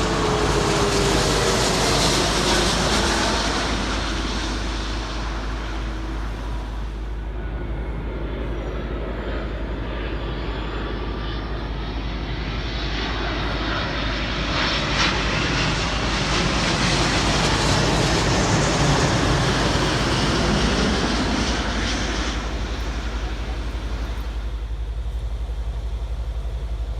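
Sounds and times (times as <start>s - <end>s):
jet airliner passing by: 0.0s - 26.9s.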